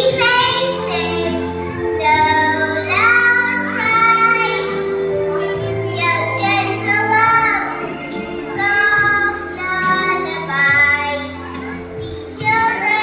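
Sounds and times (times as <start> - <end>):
child singing: 0.0 - 13.0
instrumental backing music: 0.0 - 13.0.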